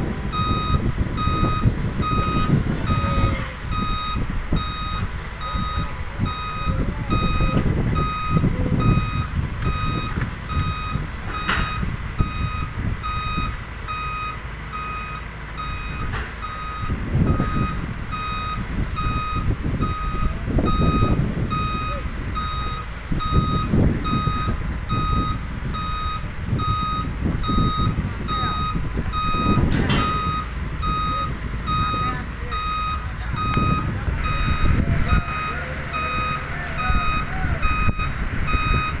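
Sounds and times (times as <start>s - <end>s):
truck engine rumble: 0.0s - 39.0s
truck reversing alarm beeping: 0.0s - 39.0s.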